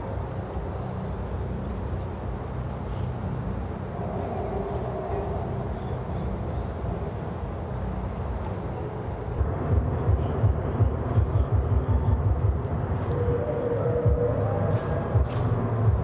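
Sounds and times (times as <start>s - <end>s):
steady low rumble: 0.0s - 16.0s
wind buffeting microphone: 0.0s - 16.0s.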